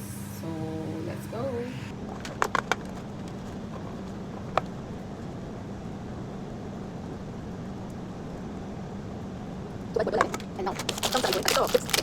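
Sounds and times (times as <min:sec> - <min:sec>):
machine hum and hiss: 0:00.0 - 0:12.0.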